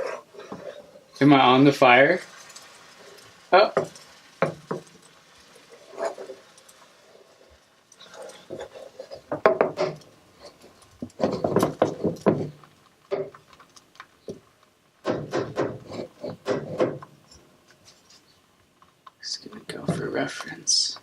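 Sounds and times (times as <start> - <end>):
utensil scraping cookware: 0.0 - 14.5, 15.1 - 18.4.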